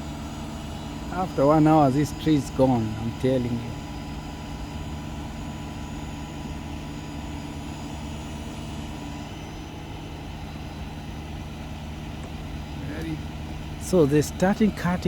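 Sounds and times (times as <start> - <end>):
heavy engine idling: 0.0 - 15.0.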